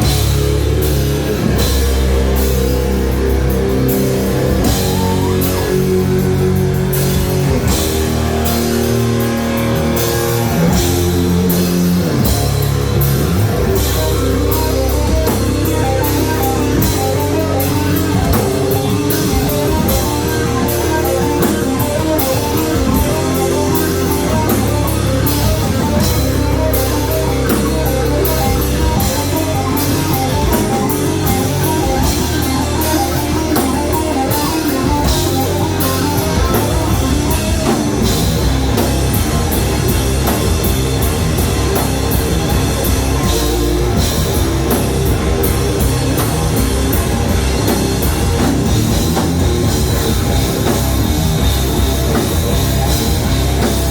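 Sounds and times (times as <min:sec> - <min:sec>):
rock band playing live: 0:00.0 - 0:53.9.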